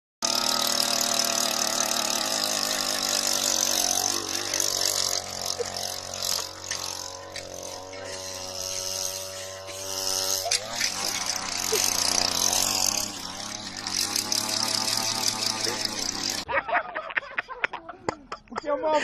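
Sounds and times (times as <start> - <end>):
engine running steadily: 0.2 - 16.5.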